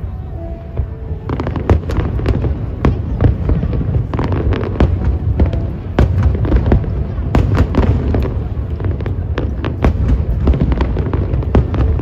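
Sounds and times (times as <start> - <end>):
fireworks cracks and bangs: 0.8 - 12.0.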